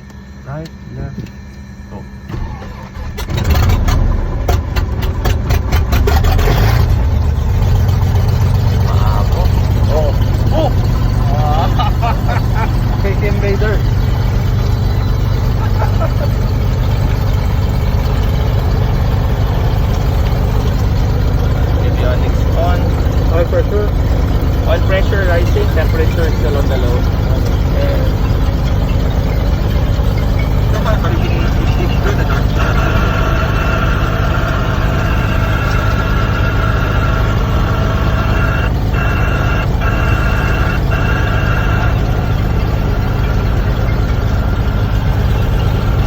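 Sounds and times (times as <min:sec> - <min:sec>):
thin steady whine: 0:00.0 - 0:03.2, 0:07.2 - 0:46.0
aircraft engine idling: 0:00.0 - 0:46.0.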